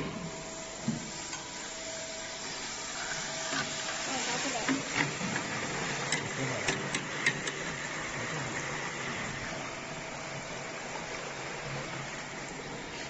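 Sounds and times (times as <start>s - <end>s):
hot oil sizzling: 0.3s - 13.0s.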